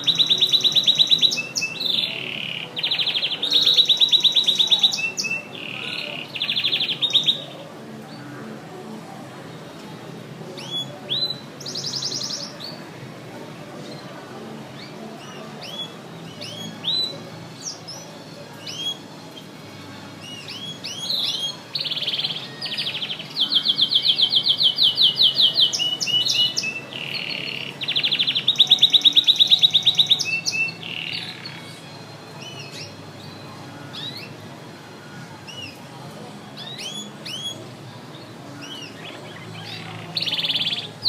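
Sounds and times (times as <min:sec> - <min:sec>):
canary singing: 0:00.0 - 0:08.9, 0:09.7 - 0:12.9, 0:13.7 - 0:41.0.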